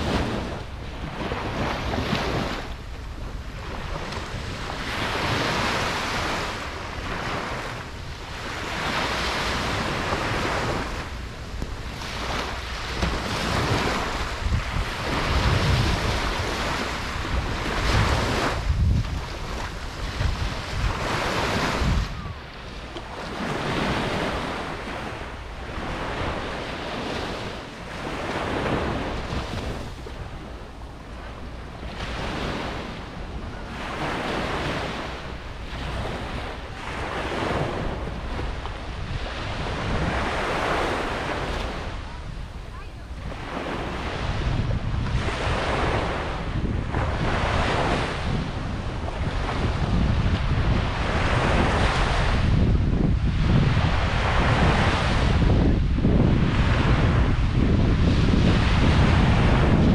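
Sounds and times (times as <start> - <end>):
ocean surf breaking: 0.0 - 59.9
wind rumble on microphone: 0.0 - 59.9.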